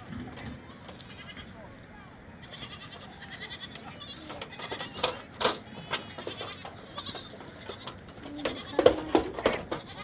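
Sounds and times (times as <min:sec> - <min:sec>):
goats and sheep bleating: 0:00.5 - 0:10.0.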